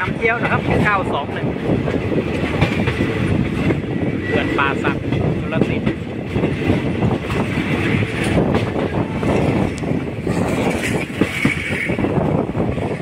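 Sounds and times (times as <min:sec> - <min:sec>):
rumble of wheels on rails: 0:00.0 - 0:13.0
wind on microphone: 0:00.0 - 0:13.0.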